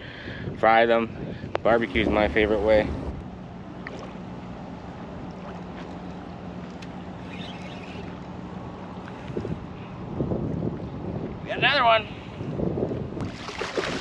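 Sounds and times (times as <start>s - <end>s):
light wind: 0.0s - 14.0s
low engine hum: 0.0s - 14.0s
water noise: 0.0s - 14.0s.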